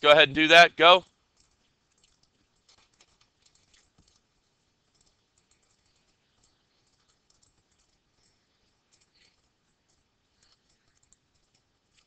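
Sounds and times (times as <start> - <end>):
keyboard and mouse clicking: 1.3 - 4.3, 4.9 - 12.0.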